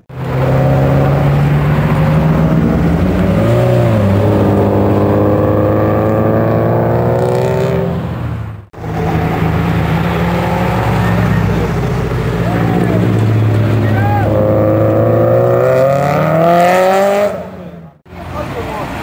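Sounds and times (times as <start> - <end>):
race car engines revving hard: 0.0 - 19.0.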